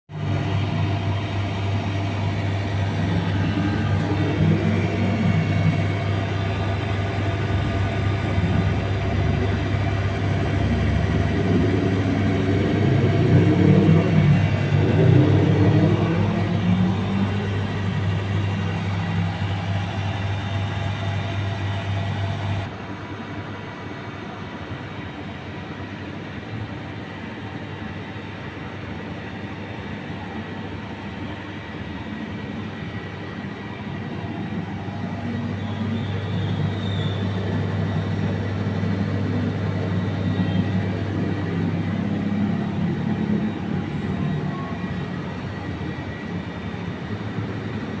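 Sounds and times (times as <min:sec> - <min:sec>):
low machine hum with rumbling: 0:00.1 - 0:48.0.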